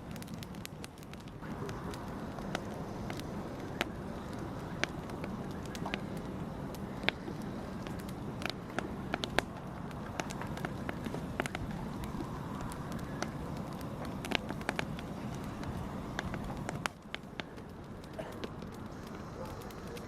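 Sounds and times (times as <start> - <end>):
fire burning with crackles: 0.0 - 20.0.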